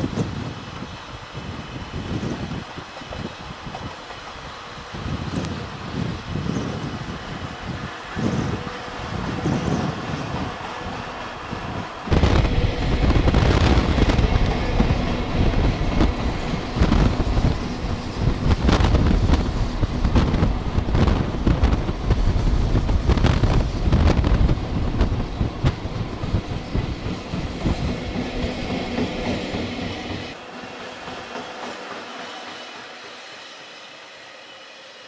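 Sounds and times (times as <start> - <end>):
electric locomotive rumbling past: 0.0 - 35.0
train wheel clicks and clatter: 2.1 - 5.6, 8.1 - 33.2.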